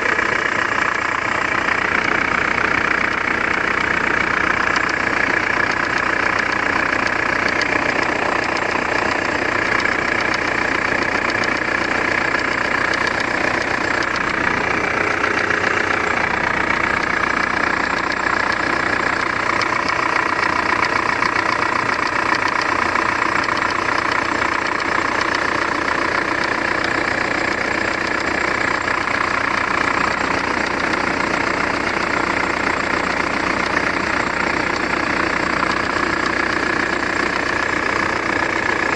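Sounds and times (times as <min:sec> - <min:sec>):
diesel engine idling with knock: 0:00.0 - 0:38.9.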